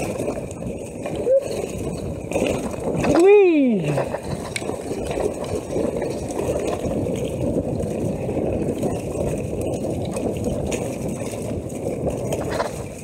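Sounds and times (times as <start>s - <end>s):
bike tyres rumbling on trail: 0.0s - 13.0s
wind noise: 0.0s - 13.0s.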